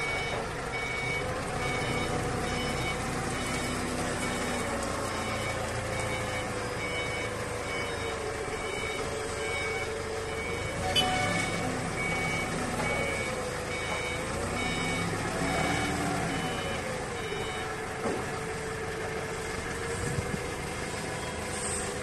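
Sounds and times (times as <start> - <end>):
forklift warning beeper: 0.0 - 17.8
forklift engine running: 0.0 - 22.0.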